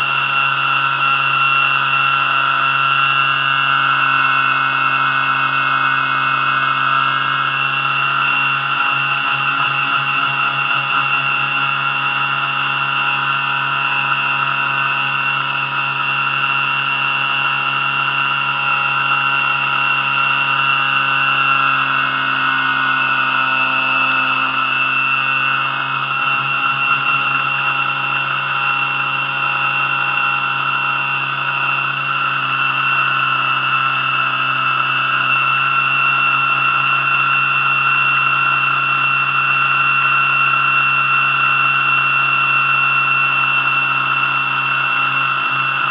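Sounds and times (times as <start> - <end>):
electric motor whining: 0.0 - 45.9.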